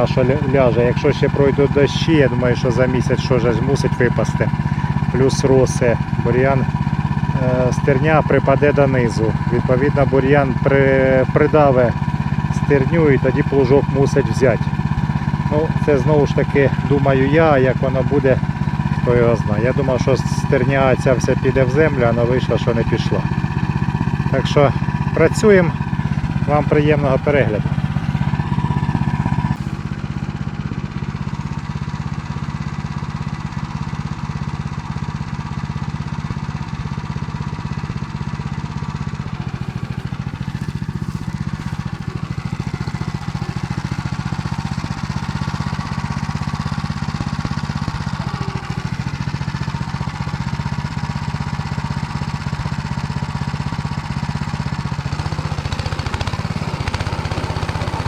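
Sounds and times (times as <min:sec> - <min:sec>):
rotary tiller engine running: 0:00.0 - 0:58.0.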